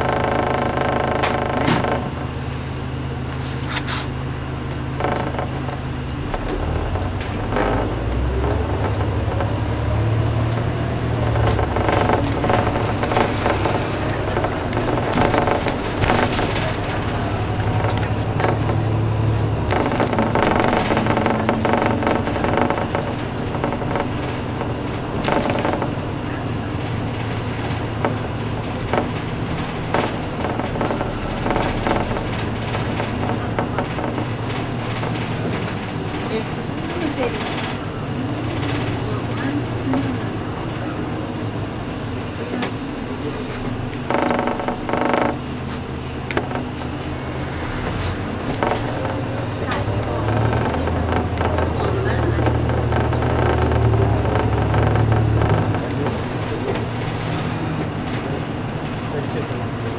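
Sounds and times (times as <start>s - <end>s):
bus engine running: 0.0s - 59.9s
bus interior rattling and clicking: 0.0s - 59.9s.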